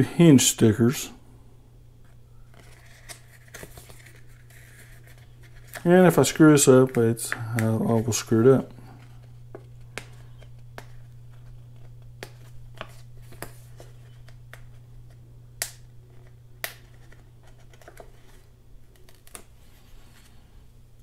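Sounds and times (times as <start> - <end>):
low hum: 0.0 - 21.0
paper sticker sheet crackling: 2.0 - 20.4.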